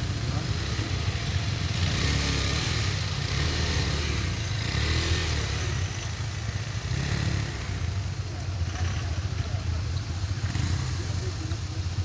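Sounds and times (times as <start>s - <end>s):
faint crowd voices: 0.0s - 12.0s
motorcycle engines rumbling: 0.0s - 12.0s.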